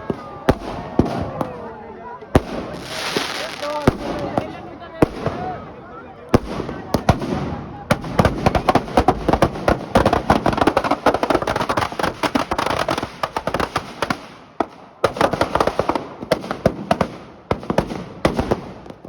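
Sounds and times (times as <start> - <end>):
firecrackers popping: 0.0 - 1.7, 2.3 - 5.6, 6.3 - 19.0.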